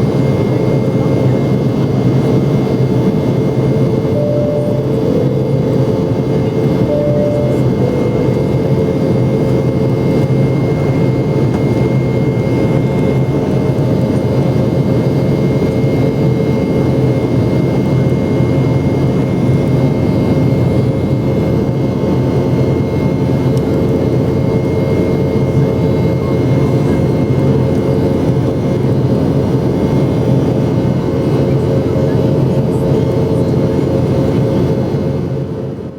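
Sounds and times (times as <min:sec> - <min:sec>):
constant whining tones: 0:00.0 - 0:30.8
jet engine noise in cabin: 0:00.0 - 0:35.9.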